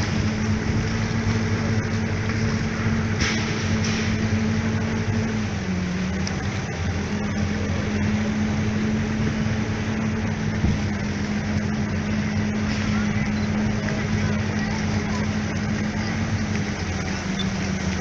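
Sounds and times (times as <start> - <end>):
motorboat engine droning: 0.0 - 18.0.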